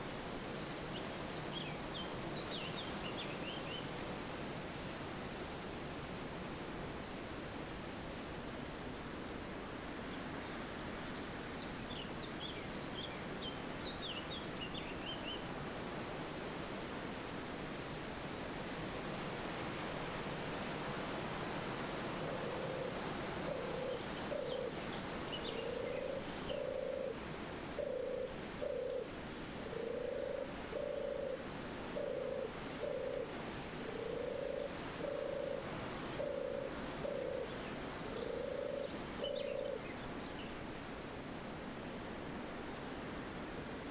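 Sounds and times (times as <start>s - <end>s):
forest wind rushing: 0.0s - 43.9s.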